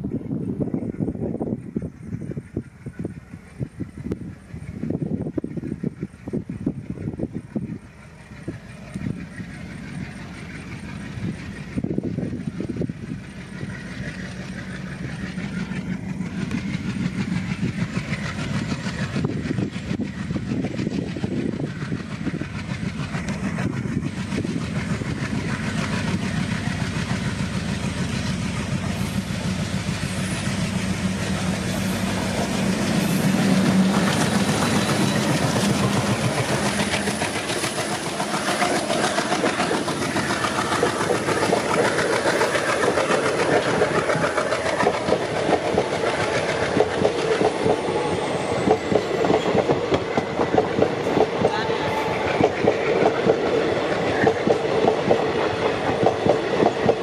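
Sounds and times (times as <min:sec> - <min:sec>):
diesel locomotives chugging: 0:00.0 - 0:57.0
wheels clicking over rail joints: 0:02.2 - 0:57.0.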